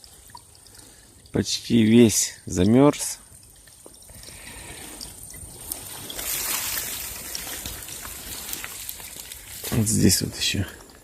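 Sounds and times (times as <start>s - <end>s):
water trickling in stream: 0.0s - 11.0s.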